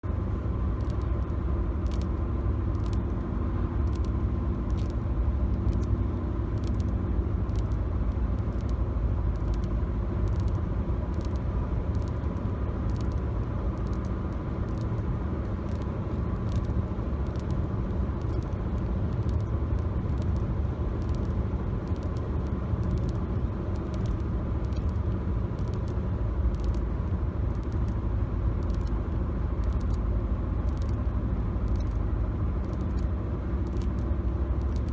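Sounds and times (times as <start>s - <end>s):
car cabin road rumble: 0.0s - 34.9s.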